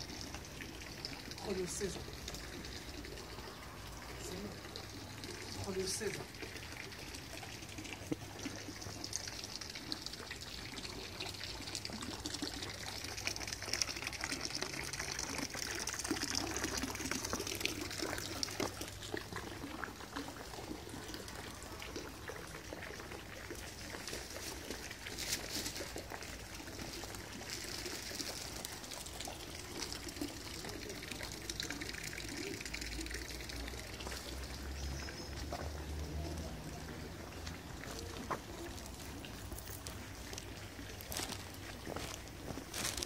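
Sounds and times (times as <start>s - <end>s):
water running and splashing: 0.0s - 43.0s.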